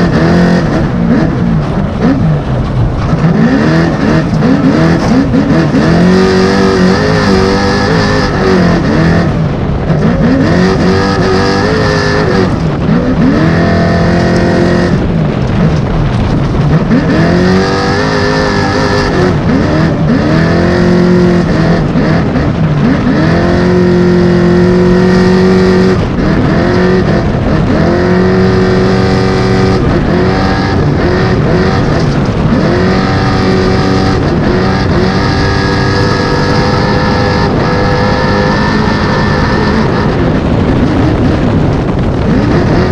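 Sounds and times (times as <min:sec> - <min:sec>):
truck engine revving: 0:00.0 - 0:42.9.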